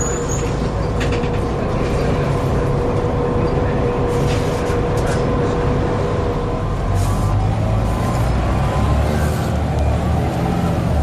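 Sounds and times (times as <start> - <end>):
bus engine rumble: 0.0 - 11.0.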